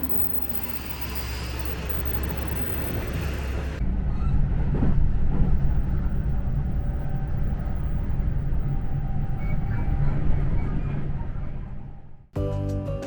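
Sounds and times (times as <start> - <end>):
train rumble: 0.0 - 12.3.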